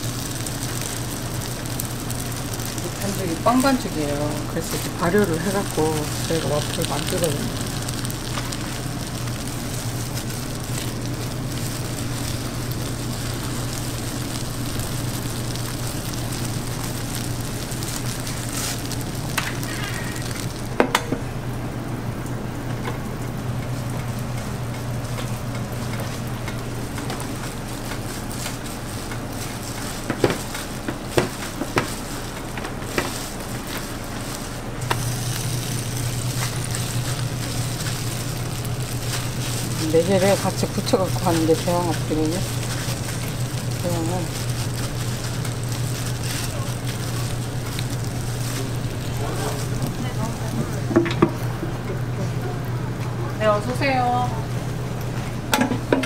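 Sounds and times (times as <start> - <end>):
dough sizzling on waffle iron: 0.0 - 56.0.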